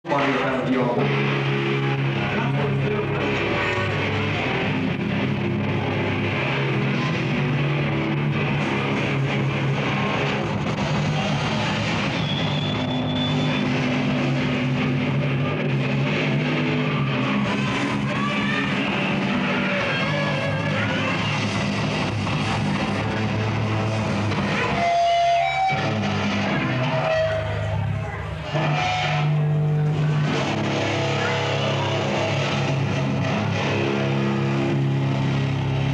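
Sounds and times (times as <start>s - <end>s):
death metal band playing live: 0.1s - 35.9s.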